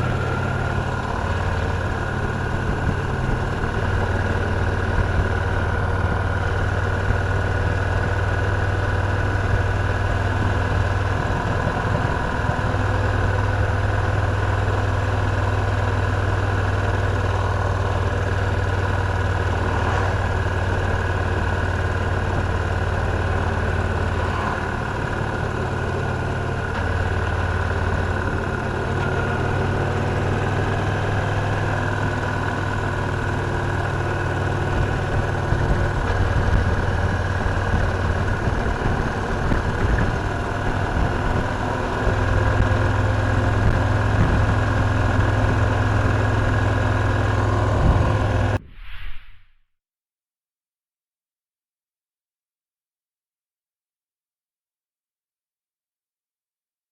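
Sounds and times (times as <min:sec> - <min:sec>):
motorcycle engine running: 0:00.0 - 0:48.6.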